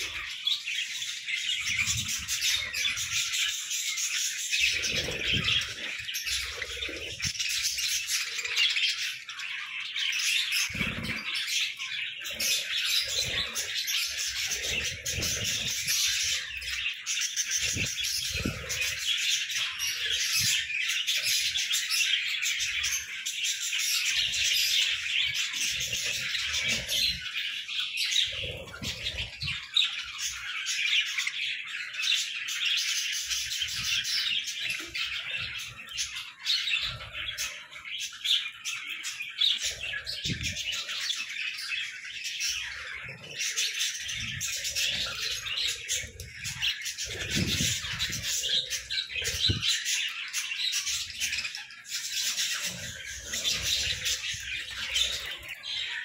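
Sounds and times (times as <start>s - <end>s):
budgerigars chattering and chirping: 0.0s - 56.0s.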